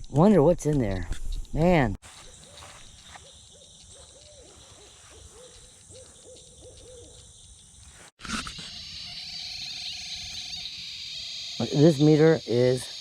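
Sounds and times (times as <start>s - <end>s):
owl hooting: 2.2s - 13.0s.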